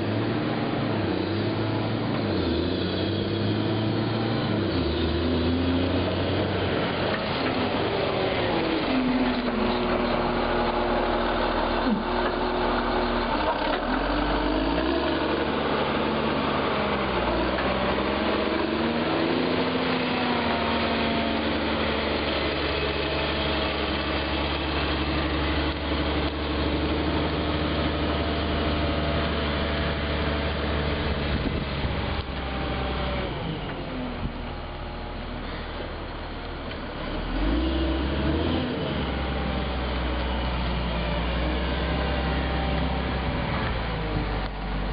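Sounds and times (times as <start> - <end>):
diesel engine of passing grader: 0.0 - 44.9.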